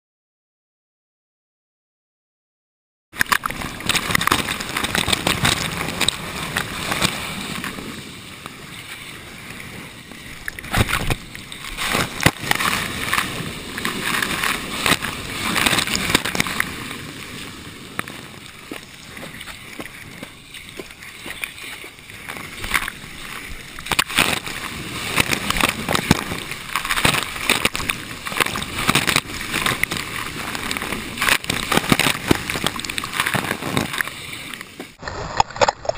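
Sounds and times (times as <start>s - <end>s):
water splashing on camera housing: 3.2s - 7.7s, 10.4s - 16.8s, 18.0s - 35.9s
rushing water and breaking surf: 3.2s - 35.9s.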